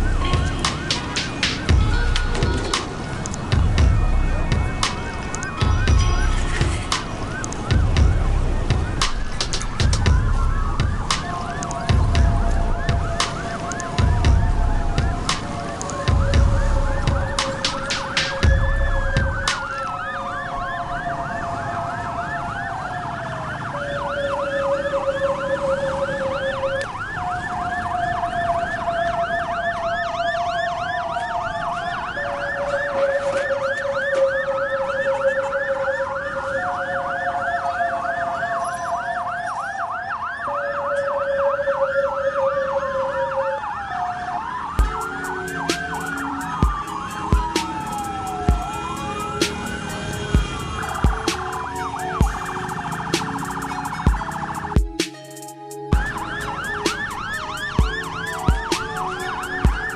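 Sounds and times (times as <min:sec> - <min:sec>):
siren wails: 0:00.0 - 0:59.9
siren yelp: 0:00.0 - 0:59.9
two-tone siren: 0:00.0 - 0:59.9.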